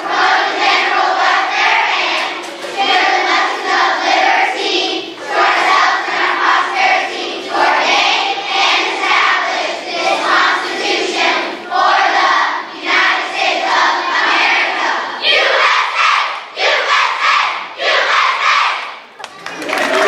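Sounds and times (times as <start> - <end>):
children's choir singing: 0.0 - 20.0.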